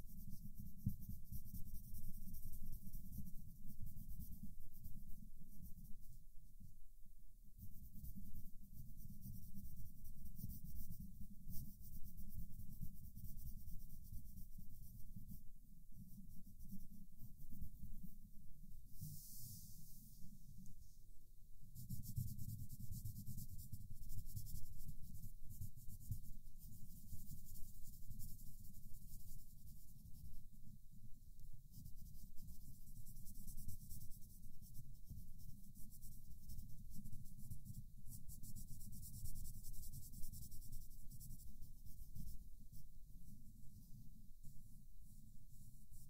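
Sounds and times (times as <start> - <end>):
pencil scratching on paper: 0.0 - 6.2, 7.6 - 15.4, 16.0 - 18.1, 18.9 - 20.0, 21.8 - 30.4, 31.7 - 42.9.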